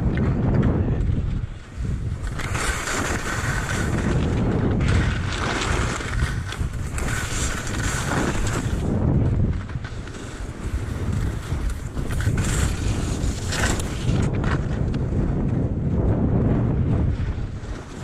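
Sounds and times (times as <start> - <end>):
wind buffeting microphone: 0.0 - 18.0
skis scraping over snow: 0.1 - 18.0.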